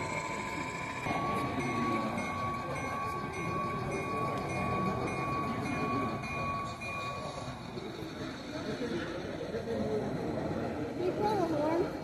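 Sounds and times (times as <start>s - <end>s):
crowd chatter: 0.0s - 12.0s
model train steady tone: 0.0s - 12.0s.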